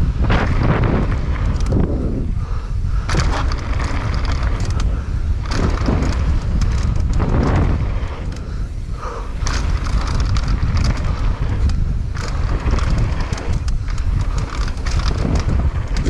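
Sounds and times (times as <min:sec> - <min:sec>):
bike rattling over bumps: 0:00.0 - 0:16.0
tyre noise on dirt: 0:00.0 - 0:16.0
wind buffeting microphone: 0:00.0 - 0:16.0.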